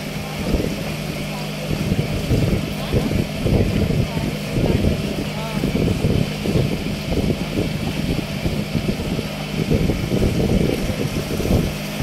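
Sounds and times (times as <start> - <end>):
engine humming: 0.0 - 12.0
wind buffeting microphone: 0.0 - 12.0.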